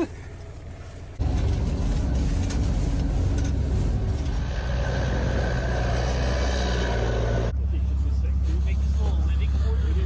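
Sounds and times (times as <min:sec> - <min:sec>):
snowcat engine drone: 0:00.2 - 0:10.0.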